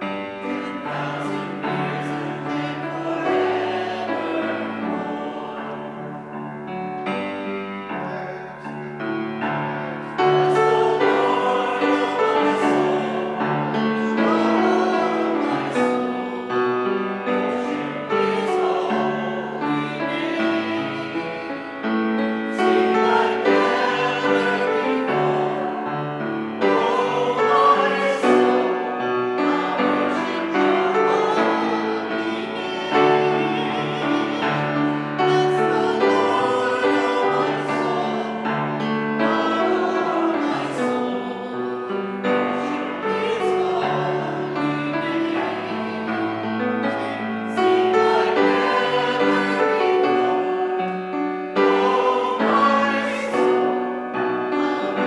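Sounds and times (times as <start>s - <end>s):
keyboard accompaniment: 0.0s - 55.0s
voices singing a hymn: 0.0s - 55.0s.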